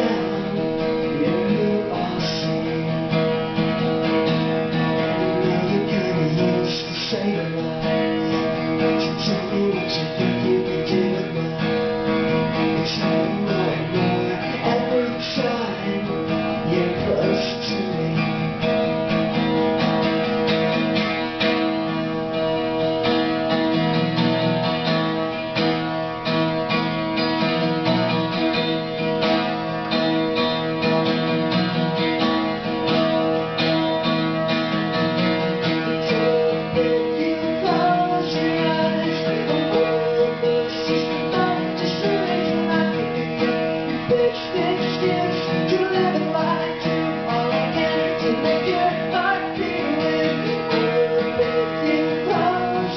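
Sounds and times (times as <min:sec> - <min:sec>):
acoustic guitar strumming: 0:00.0 - 0:52.9.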